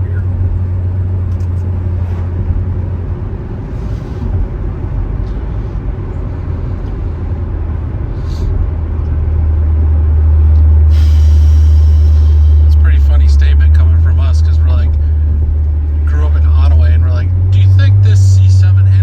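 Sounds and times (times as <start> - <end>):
car engine low rumble: 0.0 - 19.0.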